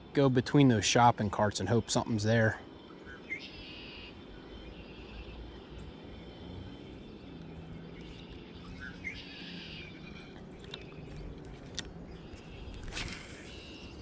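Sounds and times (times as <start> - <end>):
low outdoor rumble: 0.0 - 14.0
bird chirping and trilling: 1.9 - 14.0.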